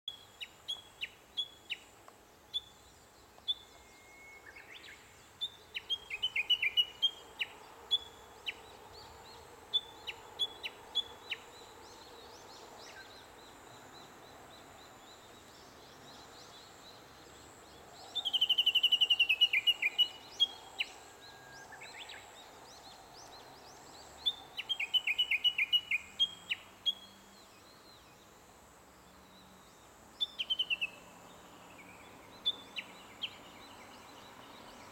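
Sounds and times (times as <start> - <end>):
faint background hiss: 0.0 - 34.9.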